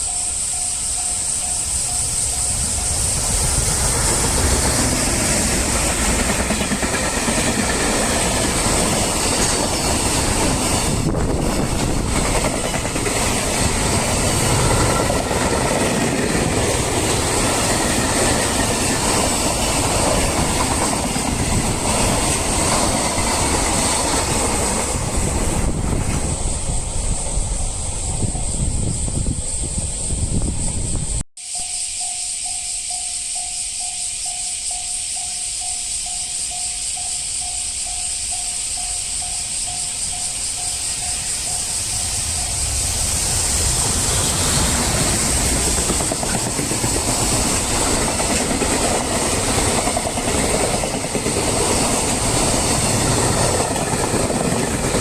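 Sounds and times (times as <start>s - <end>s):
train wheels rumbling on rails: 0.0s - 31.2s, 32.0s - 55.0s.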